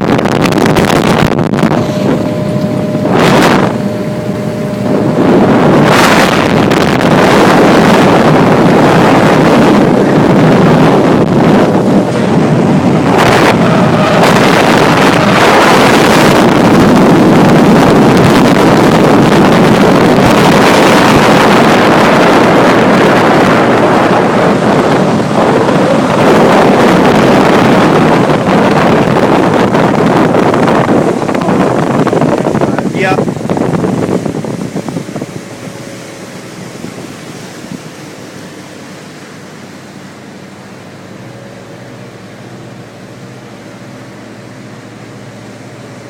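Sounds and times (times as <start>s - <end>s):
motorboat engine and rushing water: 0.0s - 46.0s
wind buffeting microphone: 0.0s - 46.0s.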